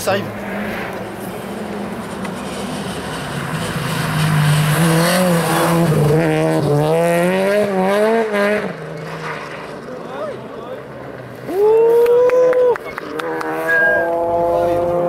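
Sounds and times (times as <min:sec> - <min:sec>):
rally car engine passing: 0:00.0 - 0:15.0.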